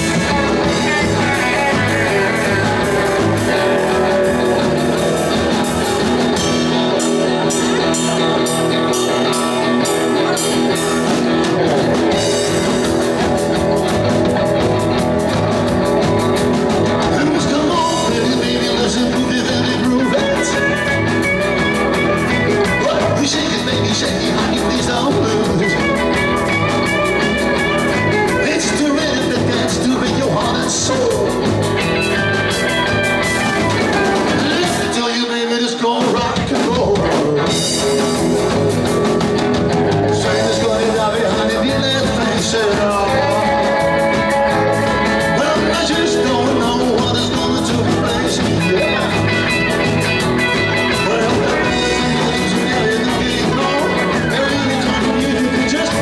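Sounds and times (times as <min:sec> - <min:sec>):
electric guitar: 0:00.0 - 0:56.0
rock and roll band playing: 0:00.0 - 0:56.0.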